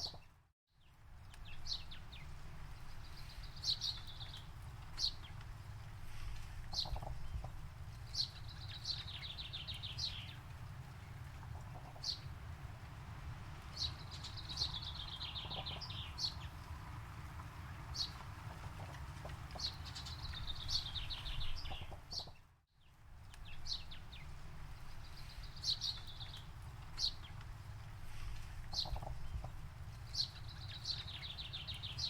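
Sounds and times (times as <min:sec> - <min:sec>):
songbirds chirping: 0:00.0 - 0:32.0
low steady rumble: 0:00.9 - 0:22.2, 0:23.0 - 0:32.0.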